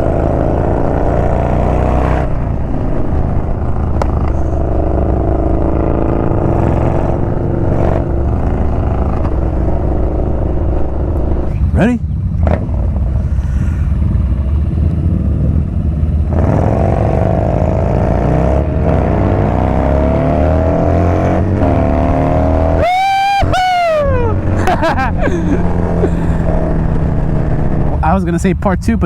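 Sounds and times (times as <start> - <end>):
motorcycle engine accelerating: 0.0 - 28.2.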